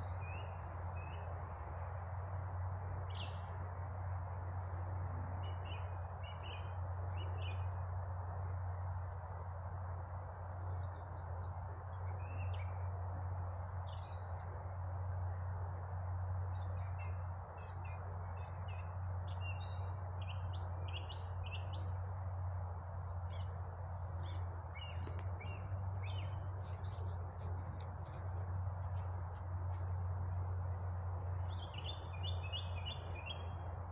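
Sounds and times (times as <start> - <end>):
small songbirds chirping: 0.0 - 2.0, 2.7 - 9.2, 10.4 - 33.9
low hum: 0.0 - 33.9.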